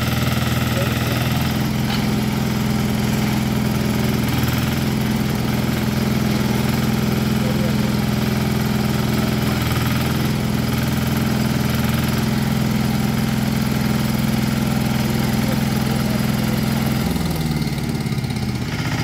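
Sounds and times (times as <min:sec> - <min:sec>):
backhoe engine running: 0:00.0 - 0:19.0.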